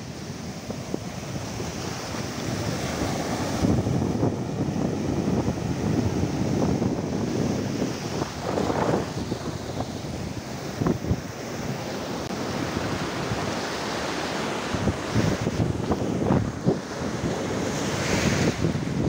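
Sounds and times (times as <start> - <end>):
surf washing over sandy beach: 0.0 - 19.0
wind rumbling on microphone: 0.0 - 19.0.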